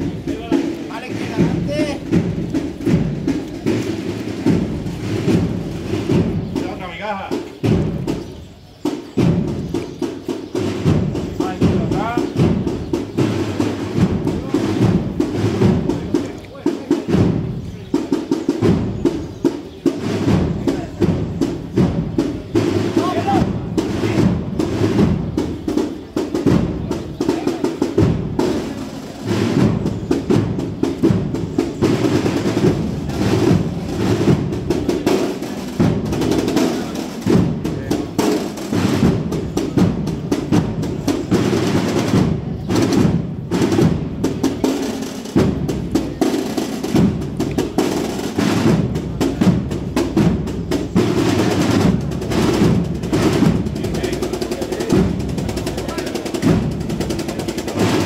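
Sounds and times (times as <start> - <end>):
bass drum: 0.0 - 16.3, 16.9 - 44.6, 45.3 - 46.2, 46.8 - 58.0
marching band playing: 0.0 - 58.0
snare drums rolling: 0.0 - 58.0.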